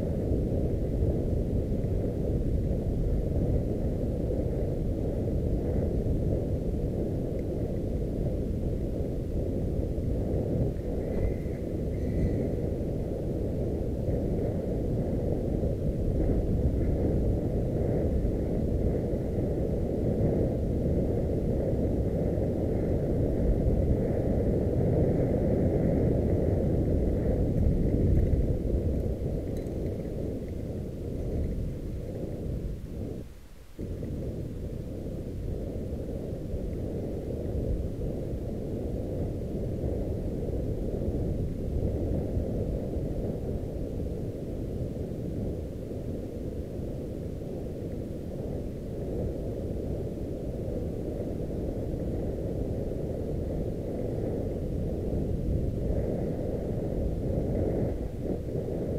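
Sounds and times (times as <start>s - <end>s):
wind and trail vibration rumble: 0.0s - 58.9s.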